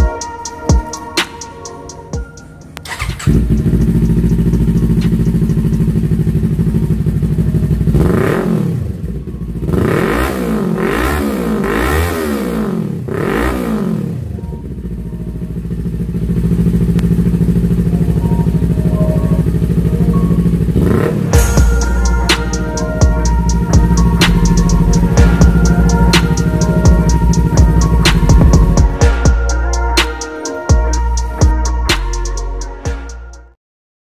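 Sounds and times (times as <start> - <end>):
motorcycle engine idling and revving: 0.0 - 33.4.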